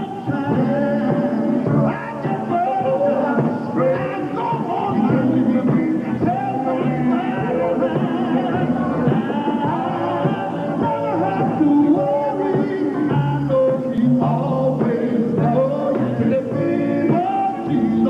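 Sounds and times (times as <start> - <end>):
gospel quartet singing: 0.0 - 18.0
guitar accompaniment: 0.0 - 18.0.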